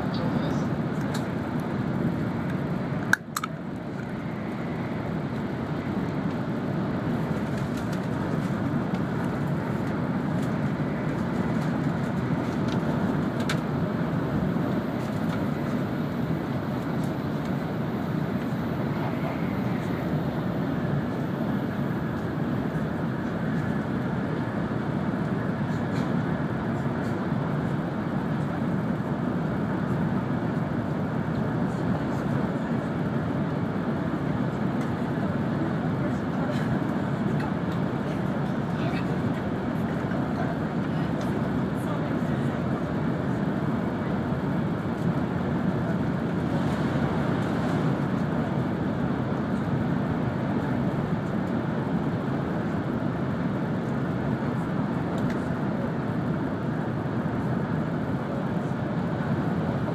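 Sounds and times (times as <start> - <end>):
high-speed train rumble in cabin: 0.0 - 59.9.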